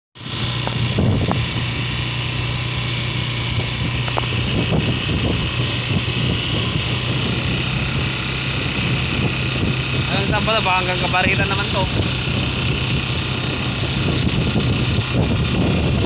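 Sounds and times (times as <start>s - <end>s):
scooter engine running: 0.2s - 16.0s.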